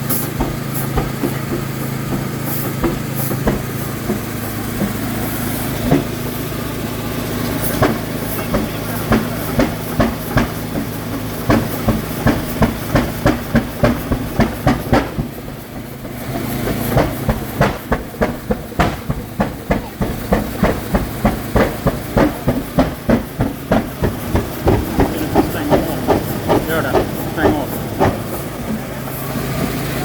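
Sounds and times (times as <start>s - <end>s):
engine firing in slow beat: 0.0s - 30.0s.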